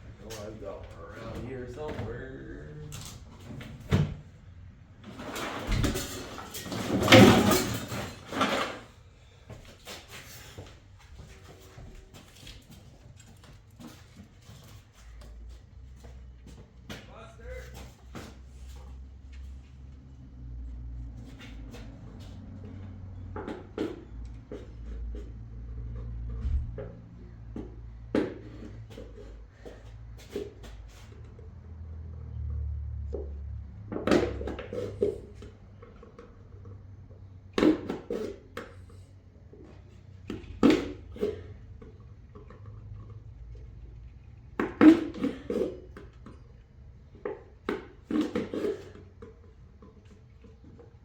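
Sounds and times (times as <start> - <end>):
objects clattering and scraping: 2.9 - 19.8, 21.0 - 31.6, 33.1 - 51.0.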